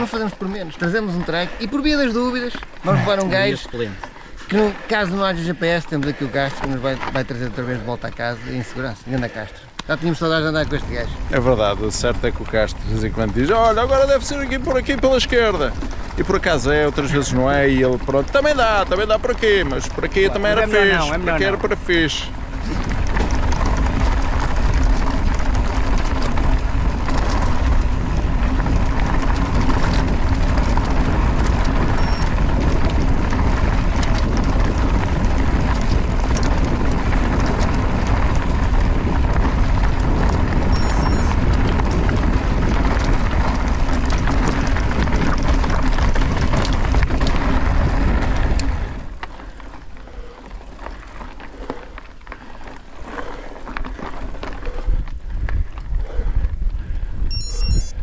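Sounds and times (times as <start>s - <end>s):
bike tyre rumble on dirt: 0.0s - 58.0s
wind buffeting microphone: 0.0s - 58.0s.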